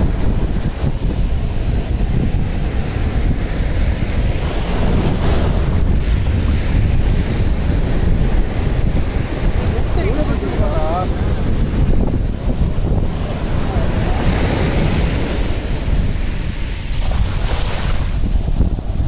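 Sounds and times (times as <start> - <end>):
sea surf breaking: 0.0 - 19.0
wind buffeting microphone: 0.0 - 19.0.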